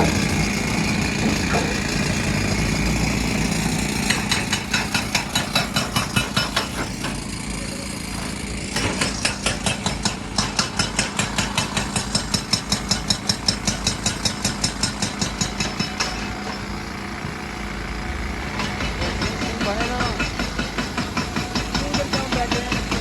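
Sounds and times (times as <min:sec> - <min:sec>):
diesel engine running: 0:00.0 - 0:23.0
hydraulic rock breaker hammering: 0:00.0 - 0:23.0.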